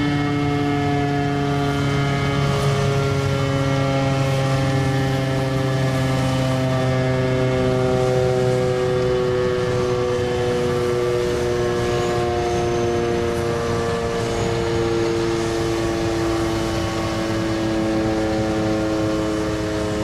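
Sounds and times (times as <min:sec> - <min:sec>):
tornado siren: 0:00.0 - 0:20.0.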